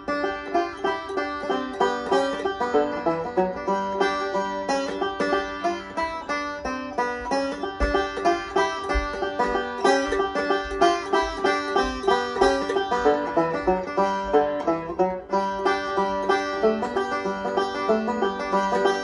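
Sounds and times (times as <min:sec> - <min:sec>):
banjo picking: 0:00.0 - 0:19.0.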